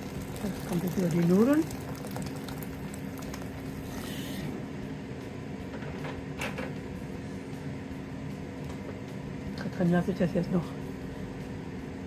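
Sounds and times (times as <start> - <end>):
air fryer fan humming: 0.0 - 12.0.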